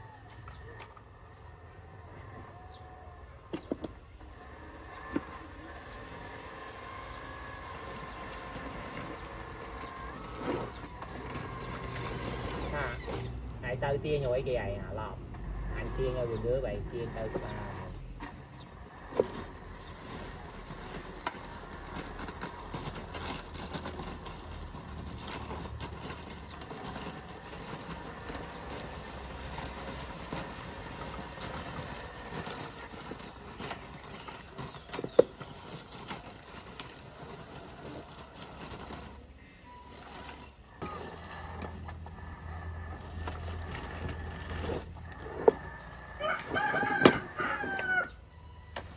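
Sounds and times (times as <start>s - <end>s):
small electric motors running: 0.0s - 48.9s
plastic and metal parts clattering: 3.4s - 13.6s, 15.4s - 48.1s.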